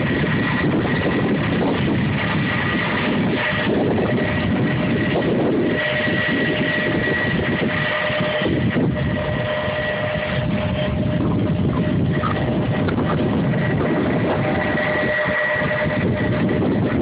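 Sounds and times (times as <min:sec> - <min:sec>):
aircraft turbine whine: 0:00.0 - 0:17.0.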